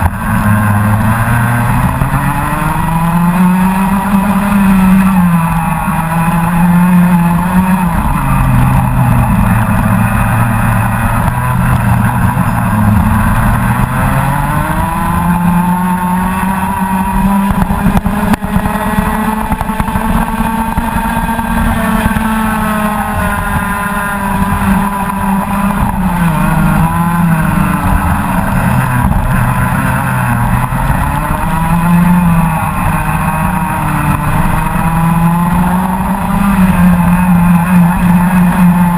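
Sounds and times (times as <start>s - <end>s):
kart engine racing: 0.0s - 38.9s.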